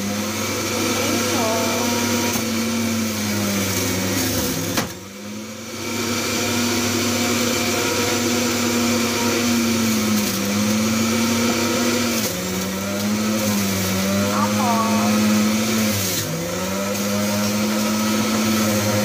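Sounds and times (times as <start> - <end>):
blender motor whining: 0.0 - 19.0.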